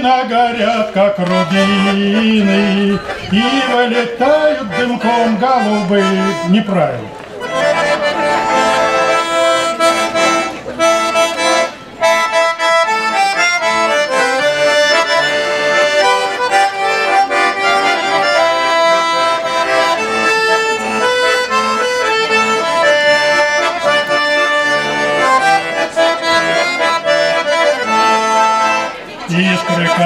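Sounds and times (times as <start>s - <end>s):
accordion melody: 0.0s - 30.0s.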